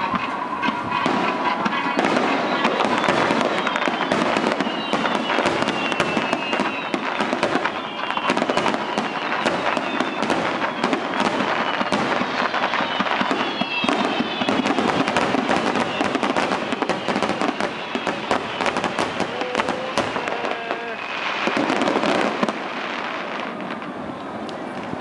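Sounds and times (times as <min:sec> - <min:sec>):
fireworks crackling and banging: 0:00.0 - 0:25.0.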